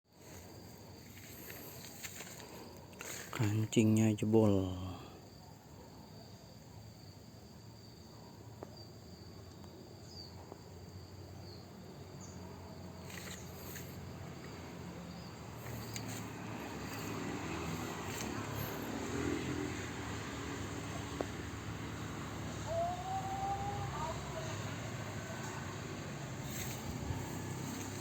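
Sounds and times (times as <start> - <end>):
insects trilling: 0.1 - 28.0.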